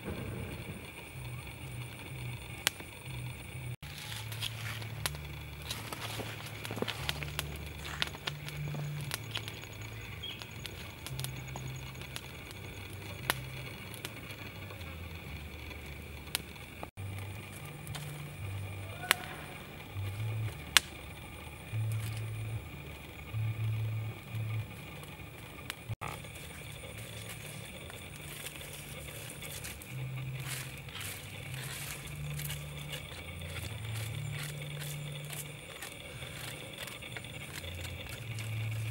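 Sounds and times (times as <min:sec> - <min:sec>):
low hum shifting pitch: 0:00.0 - 0:38.9
twig fire crackling and popping: 0:00.0 - 0:38.9.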